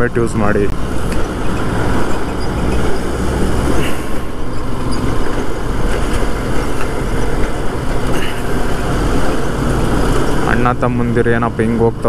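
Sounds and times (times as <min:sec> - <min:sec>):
road noise: 0:00.0 - 0:12.0
wind rushing: 0:00.7 - 0:11.0
motorcycle engine: 0:00.7 - 0:11.8.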